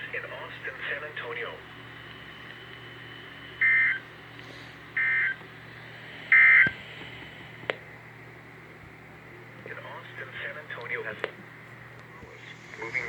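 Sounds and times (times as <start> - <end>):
low radio hum: 0.0 - 13.0.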